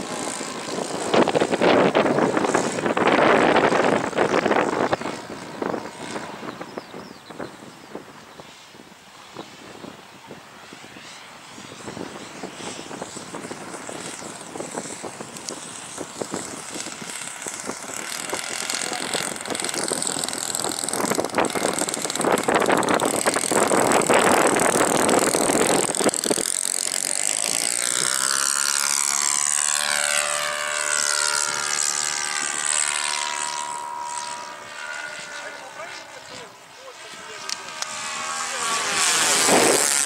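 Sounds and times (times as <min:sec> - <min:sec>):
model airplane motor buzzing: 0:00.0 - 0:40.0
wind buffeting microphone: 0:00.0 - 0:40.0.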